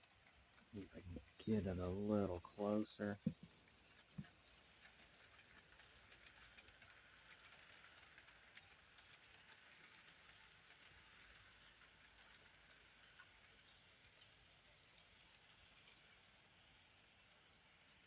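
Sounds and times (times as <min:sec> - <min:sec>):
model train motors whirring: 0:00.0 - 0:18.0
wheels clicking over rail joints: 0:00.0 - 0:18.0.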